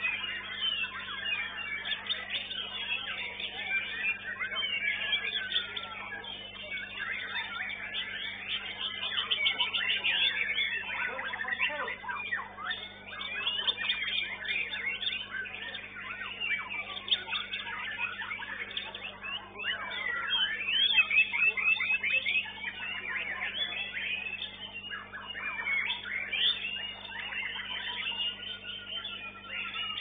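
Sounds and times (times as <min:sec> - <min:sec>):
low electrical hum: 0:00.0 - 0:30.0
songbirds whistling and chirping: 0:00.0 - 0:30.0.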